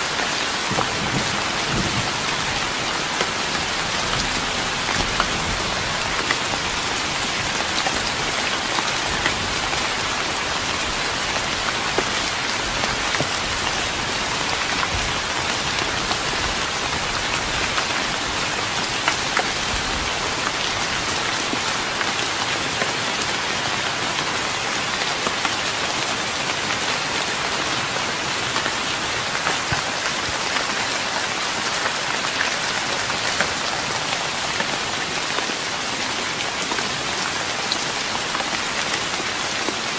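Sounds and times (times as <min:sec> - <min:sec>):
rain pattering on wooden deck: 0:00.0 - 0:39.9.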